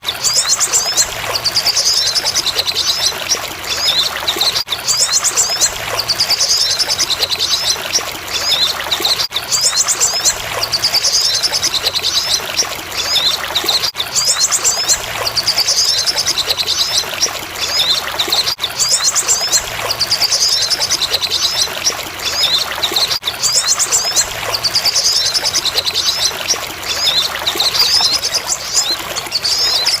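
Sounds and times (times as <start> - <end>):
trickle of running water: 0.0 - 30.0.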